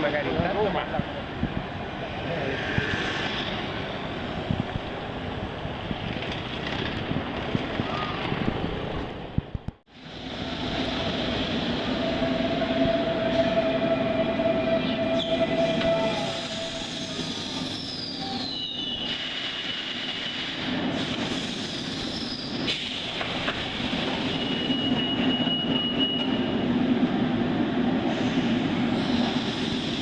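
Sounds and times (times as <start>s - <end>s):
train rumbling and clattering: 0.0s - 30.0s.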